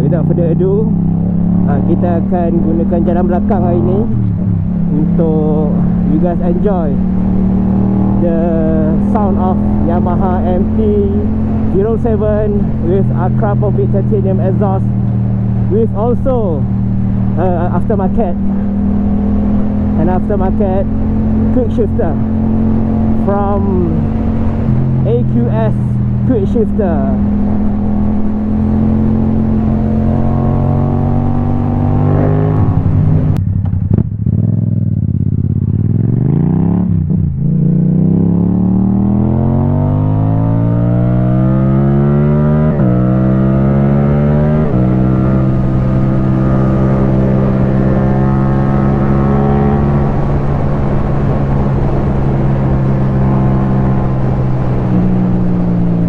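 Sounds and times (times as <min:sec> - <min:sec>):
motorcycle engine accelerating: 0:00.0 - 0:56.0
quickshifter upshifts: 0:00.0 - 0:56.0.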